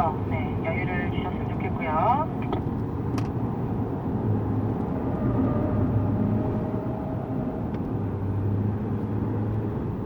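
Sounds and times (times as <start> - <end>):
car engine: 0.0 - 10.0
tyre and road noise: 0.0 - 10.0.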